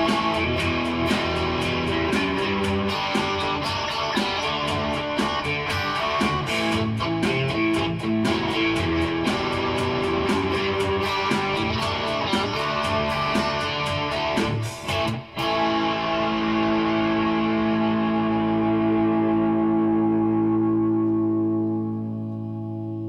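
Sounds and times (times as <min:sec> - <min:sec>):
electric guitar rock playing: 0:00.0 - 0:23.0.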